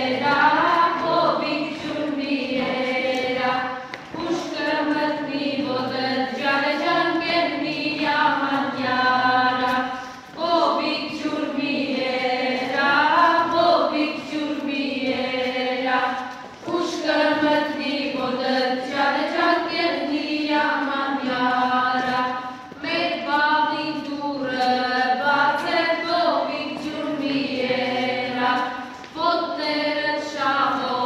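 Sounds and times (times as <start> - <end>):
children and adults singing: 0.0 - 31.0.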